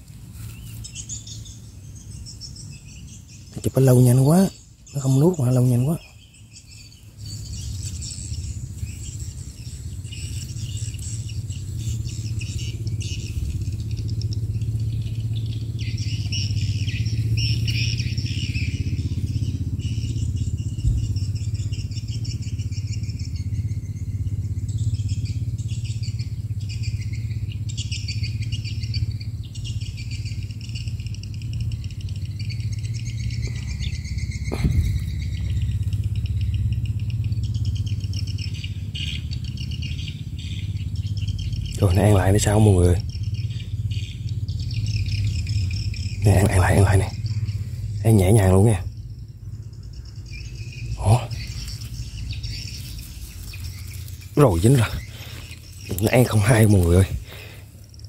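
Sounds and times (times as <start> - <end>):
birds chirping: 0.0 - 58.0
insects chirping: 0.0 - 58.0
low motor drone: 0.0 - 58.0.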